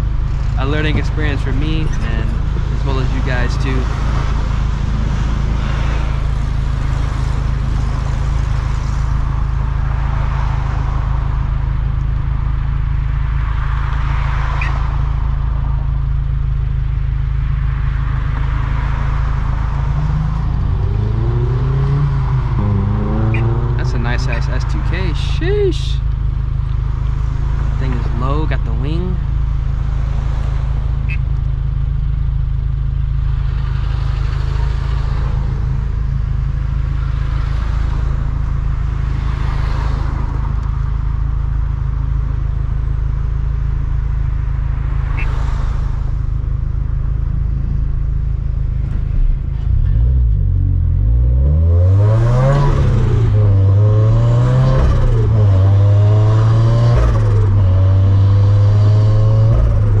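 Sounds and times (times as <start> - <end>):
car engine accelerating: 0.0 - 60.0.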